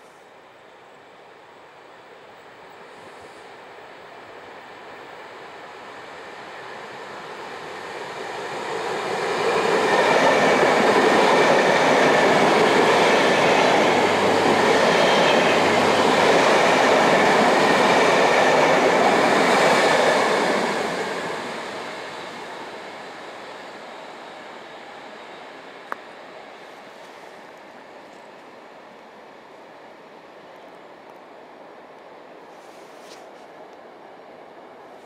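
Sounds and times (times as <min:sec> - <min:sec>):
electric train passing: 0:00.5 - 0:32.5.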